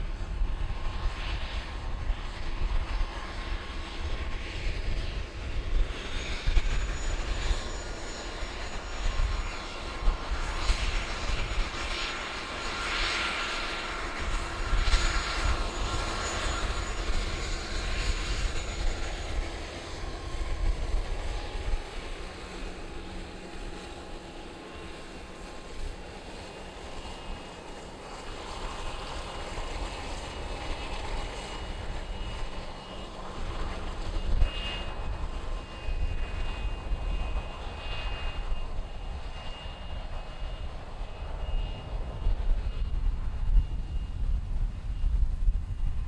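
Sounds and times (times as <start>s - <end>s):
aircraft engines running: 0.0s - 46.0s
wind buffeting microphone: 0.0s - 46.0s.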